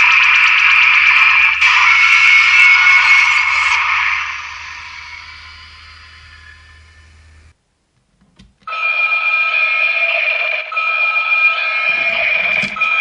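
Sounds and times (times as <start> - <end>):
loud alarm-like electronic tone: 0.0 - 7.4, 8.7 - 13.0.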